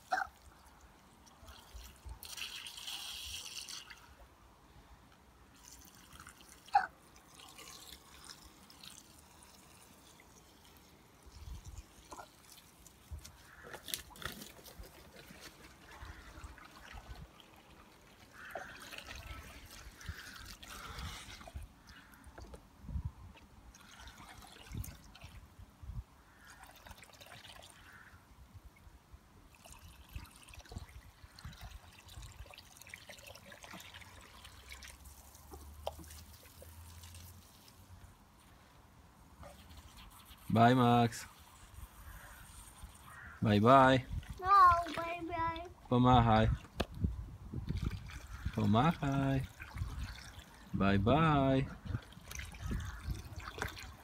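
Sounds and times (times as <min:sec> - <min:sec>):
water trickling and dripping: 0:05.5 - 0:22.6, 0:23.4 - 0:25.5, 0:26.3 - 0:28.1, 0:29.5 - 0:38.5, 0:39.3 - 0:54.0.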